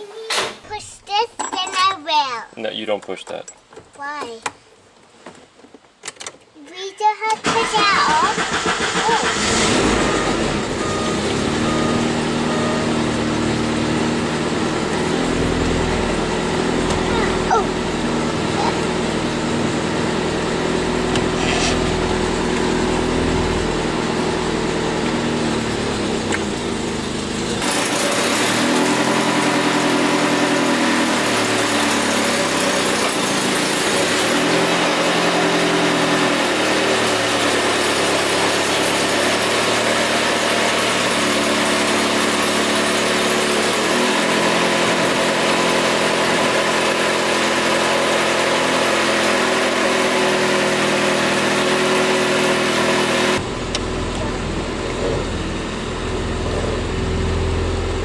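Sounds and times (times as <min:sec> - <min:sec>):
car engine running: 0:07.5 - 0:58.0.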